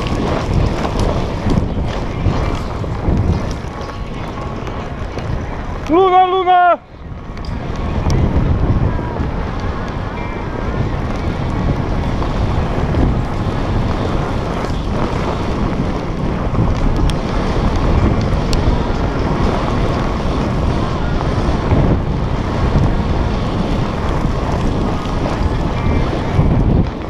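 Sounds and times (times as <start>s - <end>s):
wheels rumbling on gravel: 0.0s - 27.0s
wind rushing over microphone: 0.0s - 27.0s.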